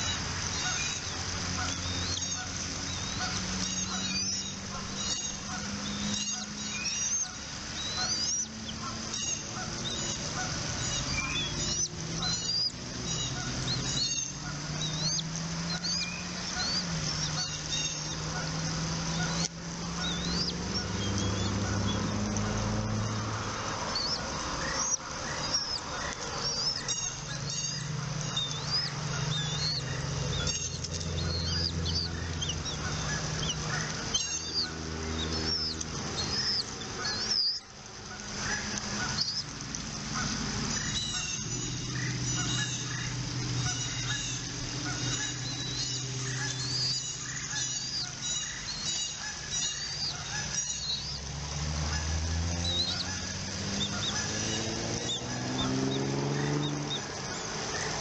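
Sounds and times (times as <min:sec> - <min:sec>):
high bird chirps: 0:00.0 - 0:37.8, 0:38.5 - 0:51.3.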